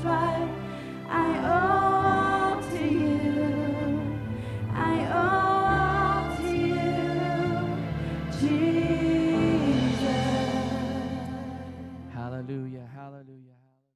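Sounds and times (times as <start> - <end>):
worship song singing: 0.0 - 13.6.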